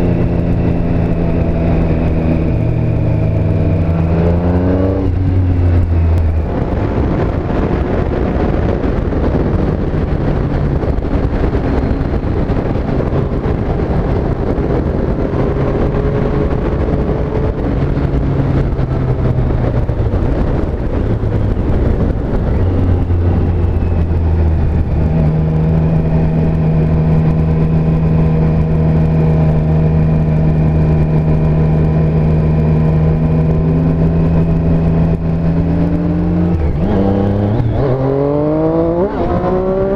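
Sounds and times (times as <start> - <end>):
motorcycle engine and exhaust: 0.0 - 39.9
wind and road noise: 0.0 - 39.9.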